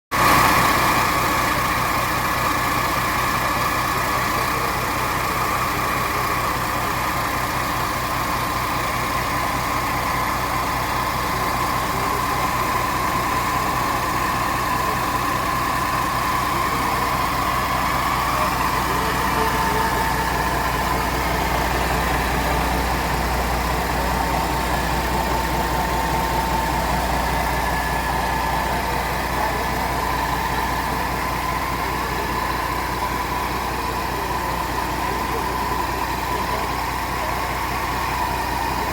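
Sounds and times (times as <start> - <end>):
diesel engine idling: 0.1 - 38.9
engine whine: 0.2 - 38.9.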